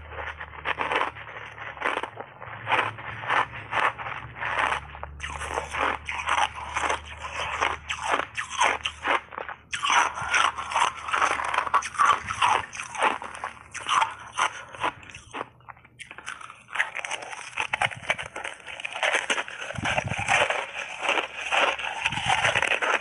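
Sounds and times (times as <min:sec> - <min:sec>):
ice being crunched and chewed: 0:00.0 - 0:23.0.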